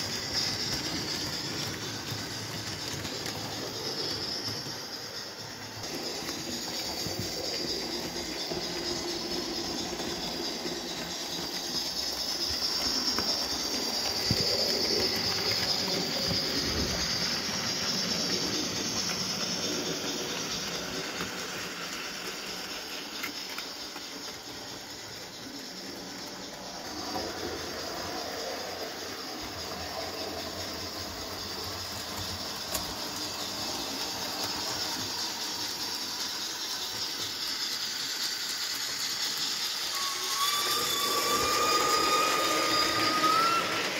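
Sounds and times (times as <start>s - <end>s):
small wheels rattling on rails: 0.0s - 43.9s
steam-like hiss: 0.0s - 43.9s.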